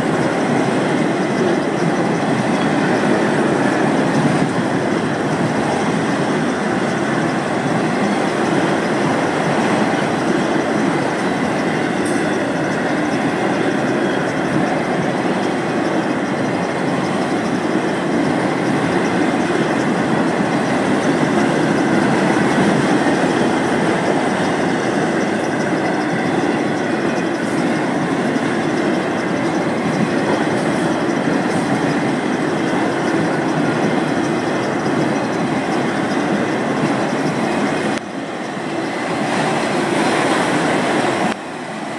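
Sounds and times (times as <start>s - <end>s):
freight train wheels on rail: 0.0s - 41.9s.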